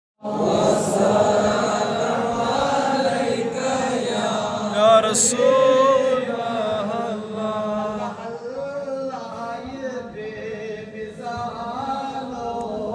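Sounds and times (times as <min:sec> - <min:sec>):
man chanting recitation: 0:00.2 - 0:12.9.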